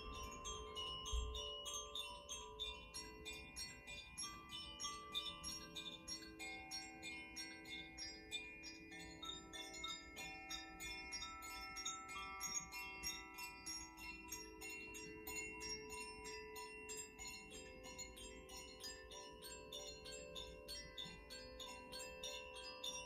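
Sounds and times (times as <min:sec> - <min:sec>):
wind chimes ringing: 0:00.0 - 0:23.0.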